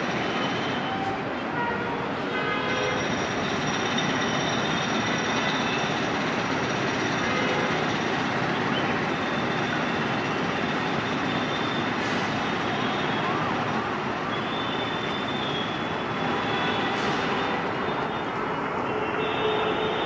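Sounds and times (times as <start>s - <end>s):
train wheels rumbling on track: 0.0s - 18.9s.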